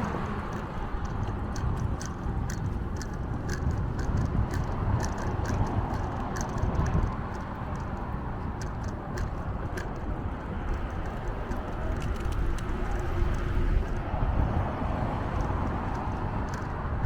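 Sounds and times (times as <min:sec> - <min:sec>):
light rattling clicks: 0:00.0 - 0:14.0, 0:15.2 - 0:17.0
road noise: 0:00.0 - 0:17.0
wind buffeting microphone: 0:00.0 - 0:17.0.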